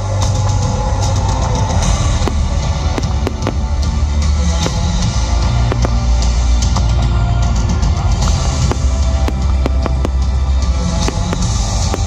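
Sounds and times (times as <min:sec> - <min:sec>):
fireworks bangs and crackles: 0:01.3 - 0:12.0.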